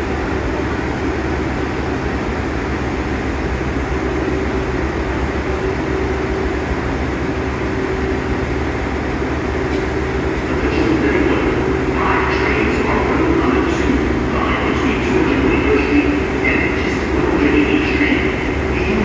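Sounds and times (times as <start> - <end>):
subway car equipment hum: 0.0 - 19.0.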